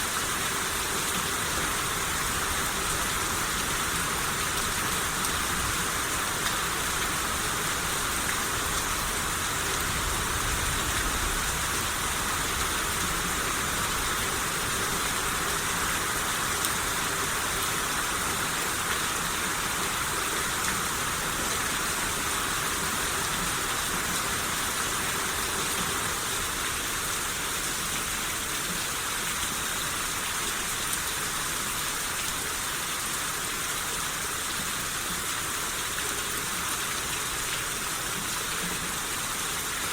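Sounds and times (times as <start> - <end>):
steady rain shower: 0.0 - 39.9.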